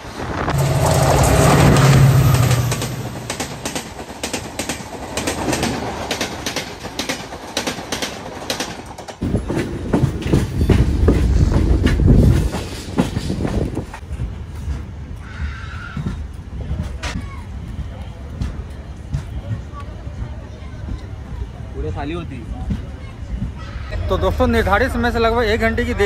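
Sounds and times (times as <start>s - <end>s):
deep rumble of train running: 0.0s - 26.0s
train wheels clickety-clack: 0.5s - 15.2s, 15.8s - 24.6s.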